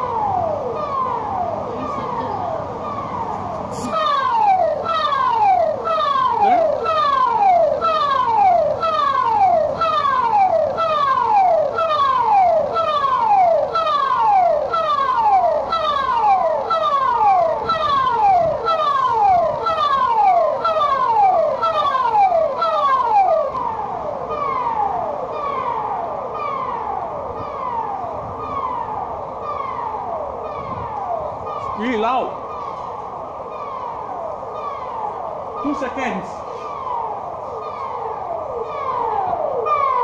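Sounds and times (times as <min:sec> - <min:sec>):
warning siren falling tone: 0:00.0 - 0:40.0.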